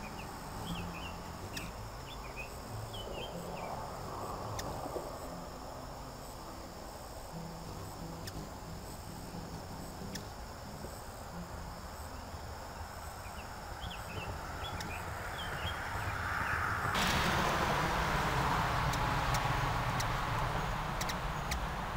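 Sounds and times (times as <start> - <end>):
insects trilling: 0.0 - 21.9
vehicle noise: 0.0 - 21.9.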